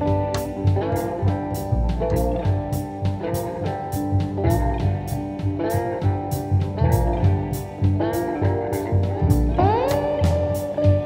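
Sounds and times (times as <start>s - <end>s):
guitar over a steady beat: 0.0s - 11.0s.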